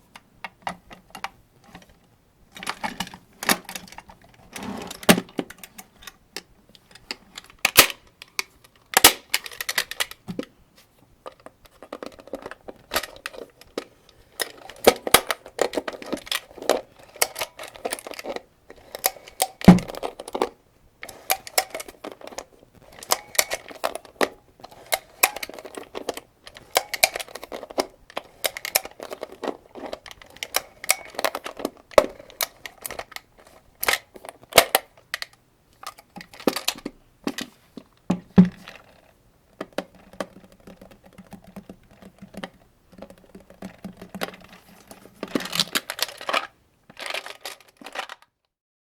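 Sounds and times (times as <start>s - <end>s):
metallic clicks and rattles: 0.4s - 10.2s, 11.3s - 48.3s.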